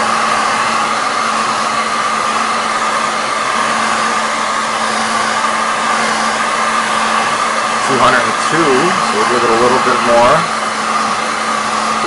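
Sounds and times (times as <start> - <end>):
hot-air blower whining: 0.0 - 12.0.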